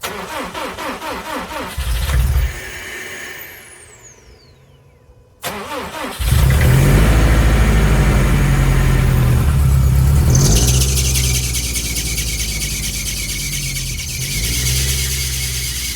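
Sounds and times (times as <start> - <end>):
engine starter cranking: 0.0 - 4.2, 5.4 - 15.9
car engine idling: 0.0 - 15.9.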